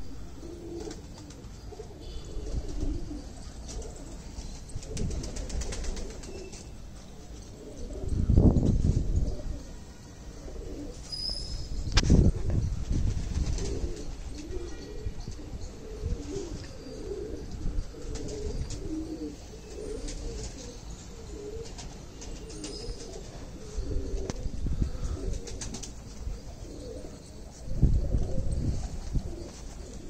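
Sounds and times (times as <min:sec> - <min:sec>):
pigeons cooing: 0:00.0 - 0:11.2, 0:13.4 - 0:30.0.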